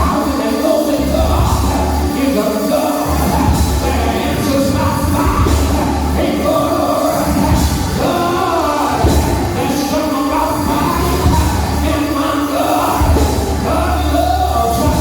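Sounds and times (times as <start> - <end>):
band with pulsing bass: 0.0 - 15.0
voices singing: 0.0 - 15.0.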